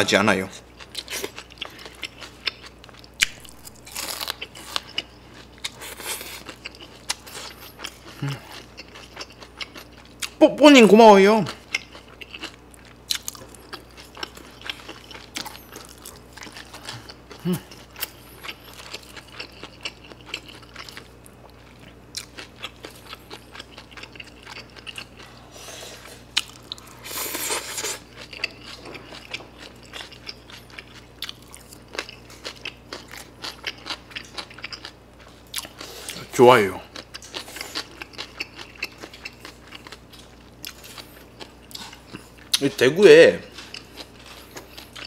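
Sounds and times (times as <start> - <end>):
person chewing: 0.8 - 10.4, 11.5 - 42.8, 43.4 - 45.0.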